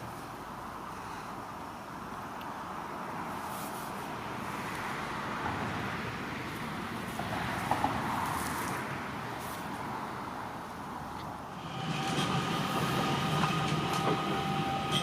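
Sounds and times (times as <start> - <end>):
road vehicle passing: 2.8 - 15.0.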